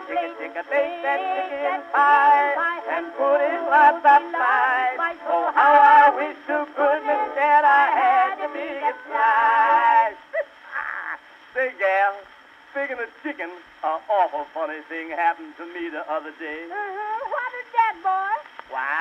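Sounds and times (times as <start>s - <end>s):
thin phonograph record music: 0.0s - 19.0s.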